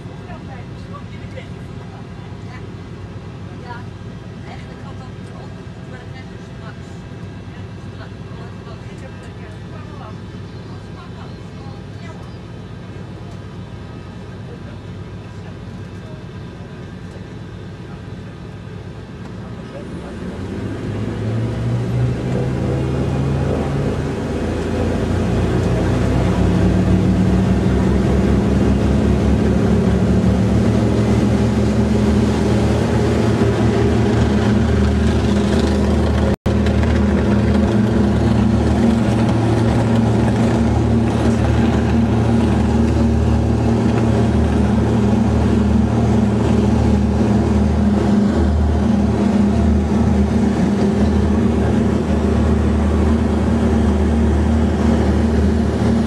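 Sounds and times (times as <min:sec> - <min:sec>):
propeller plane engines at full power: 0:00.0 - 0:56.0.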